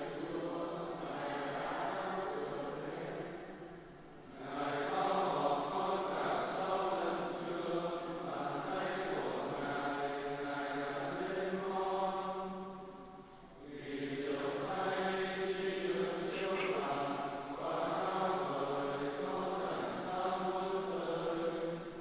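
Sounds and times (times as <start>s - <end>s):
voices singing a hymn: 0.0s - 22.0s.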